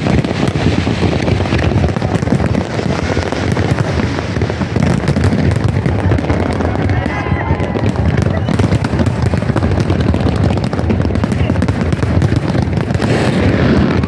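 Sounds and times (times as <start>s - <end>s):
fireworks crackling bangs: 0.0s - 14.0s.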